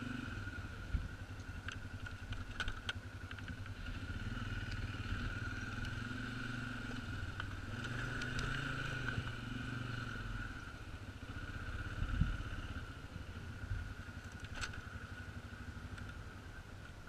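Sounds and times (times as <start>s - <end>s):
quad bike engine at low revs: 0.0s - 17.0s.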